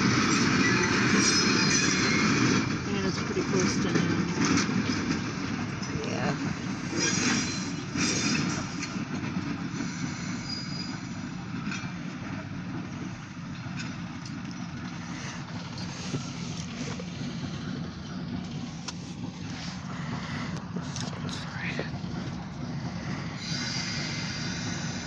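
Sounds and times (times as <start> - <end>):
diesel locomotive engine rumbling: 0.0 - 25.0.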